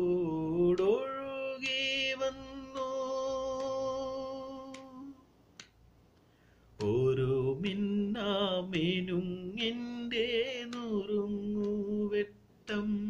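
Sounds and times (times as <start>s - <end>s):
man singing unaccompanied: 0.0s - 5.3s, 6.8s - 13.0s.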